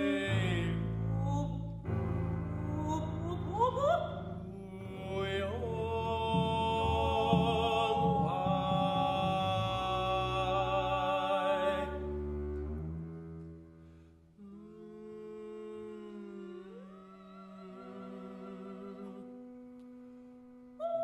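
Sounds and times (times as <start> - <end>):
bowed double bass: 0.0 - 20.0.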